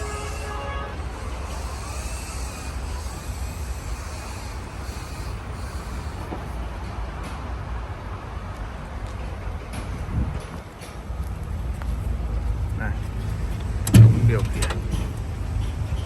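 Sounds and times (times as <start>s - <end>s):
truck engine rumbling: 0.0s - 7.2s, 9.2s - 16.0s.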